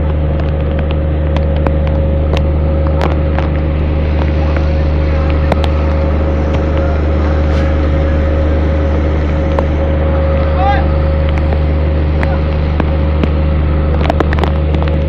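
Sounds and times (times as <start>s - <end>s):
constant whine: 0.0s - 15.0s
electric train low hum: 0.0s - 15.0s.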